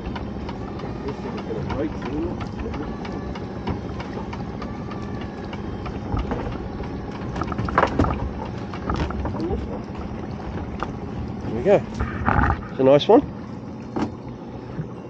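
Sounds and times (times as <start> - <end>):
boat engine idling: 0.0 - 15.0
water splashing: 0.0 - 15.0.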